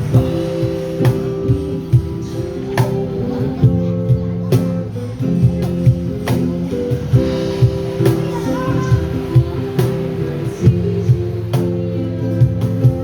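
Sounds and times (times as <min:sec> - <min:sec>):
drum kit beat: 0:00.0 - 0:13.0
guitar chords: 0:00.0 - 0:13.0.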